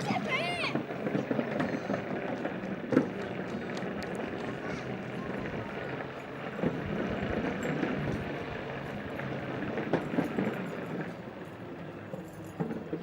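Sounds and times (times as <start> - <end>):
electric board motor and tyre rumble: 0.0 - 13.0.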